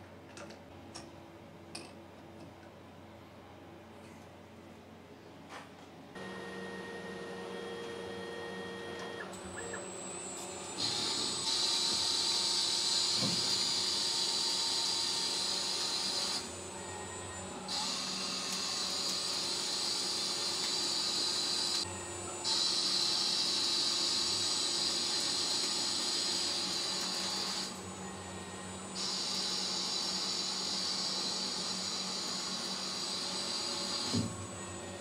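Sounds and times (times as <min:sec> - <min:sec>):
lathe spindle whine and hiss: 0:06.2 - 0:35.0.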